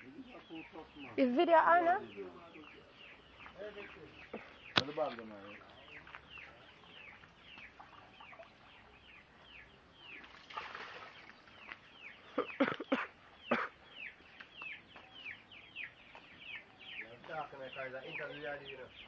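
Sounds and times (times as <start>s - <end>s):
chickens peeping: 0.0s - 10.3s, 11.1s - 19.0s.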